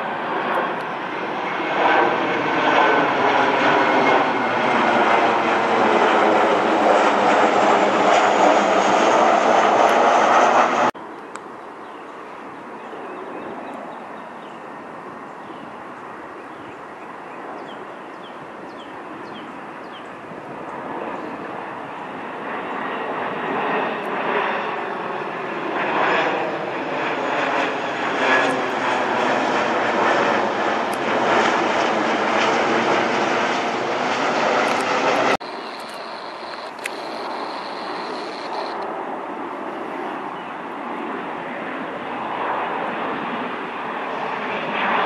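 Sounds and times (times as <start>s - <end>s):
distant jet airliner: 0.0s - 45.0s
jet airliner passing overhead: 0.0s - 45.0s.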